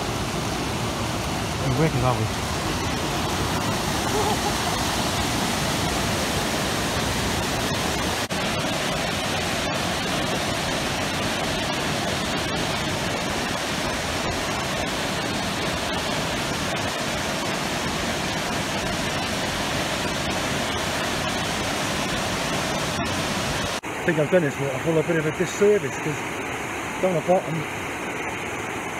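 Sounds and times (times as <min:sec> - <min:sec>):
waterfall rushing over rocks: 0:00.0 - 0:28.9.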